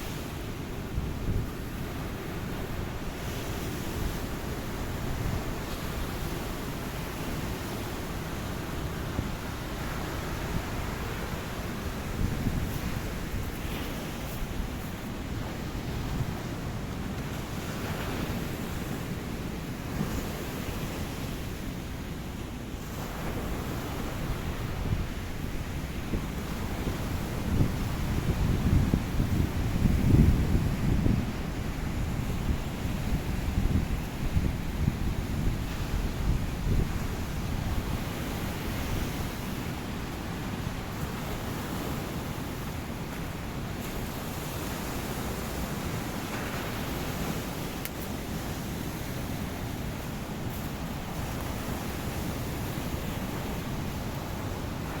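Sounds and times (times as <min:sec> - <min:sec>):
wind rumbling on microphone: 0:00.0 - 0:22.1, 0:22.8 - 0:55.0
ocean waves breaking on a beach: 0:00.0 - 0:55.0.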